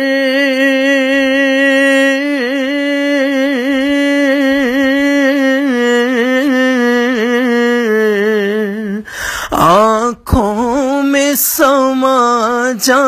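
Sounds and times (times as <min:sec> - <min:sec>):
person singing: 0:00.0 - 0:13.0.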